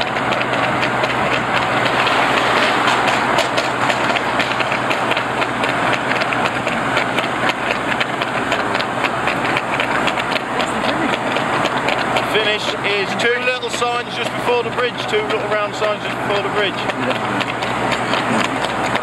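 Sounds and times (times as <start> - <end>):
horse hooves clicking on tarmac: 0.0 - 19.0
vehicle engine and road noise: 0.0 - 19.0.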